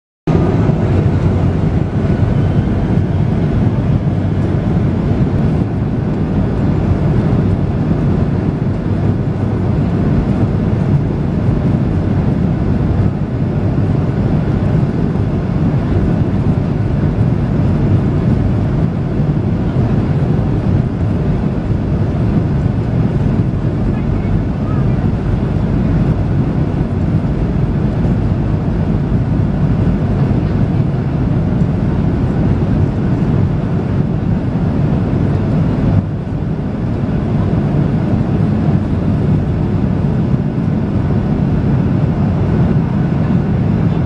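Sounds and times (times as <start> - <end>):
airliner engine rumble in cabin: 0.3 - 44.0.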